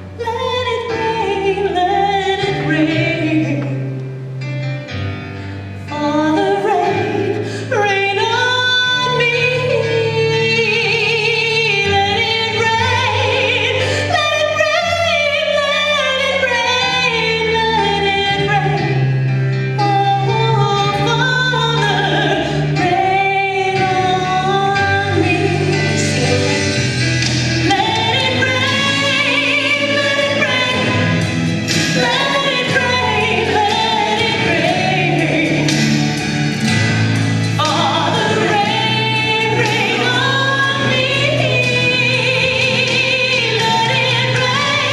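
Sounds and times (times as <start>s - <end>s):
instrumental accompaniment: 0.0s - 44.9s
woman singing: 0.1s - 3.9s, 5.9s - 36.2s, 37.5s - 44.9s.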